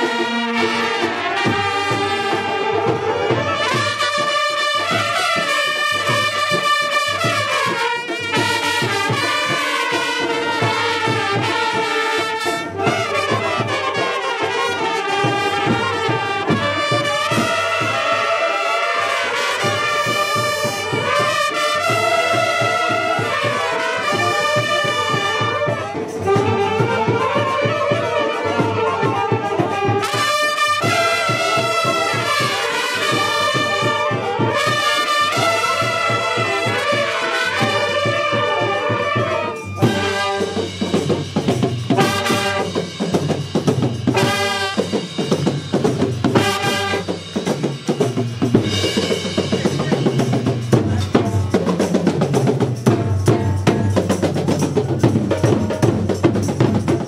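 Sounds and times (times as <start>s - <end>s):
brass band playing: 0.0s - 57.0s
drums: 0.0s - 57.0s.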